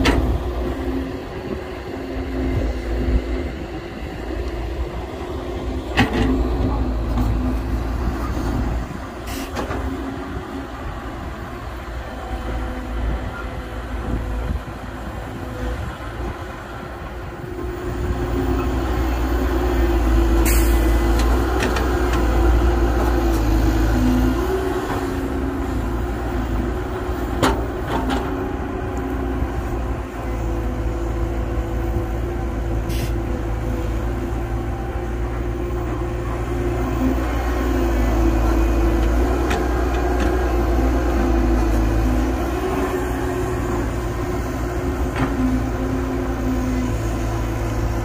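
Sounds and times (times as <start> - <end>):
heavy diesel machinery running: 0.0 - 48.0.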